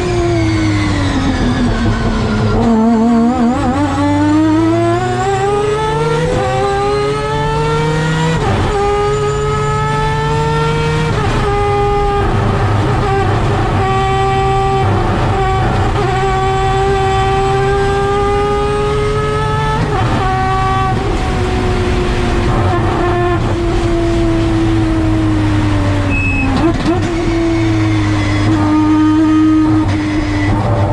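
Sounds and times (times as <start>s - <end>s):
rotary engine revving hard: 0.0s - 30.9s.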